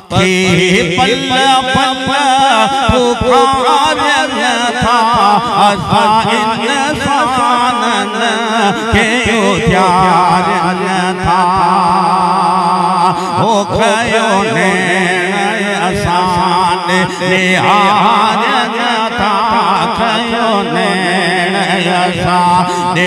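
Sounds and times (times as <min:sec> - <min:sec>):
man singing into microphone: 0:00.0 - 0:23.0.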